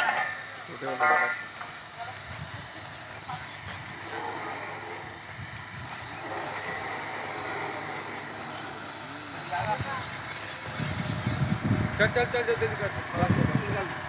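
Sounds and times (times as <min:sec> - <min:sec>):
drilling rig high hiss: 0:00.0 - 0:14.0.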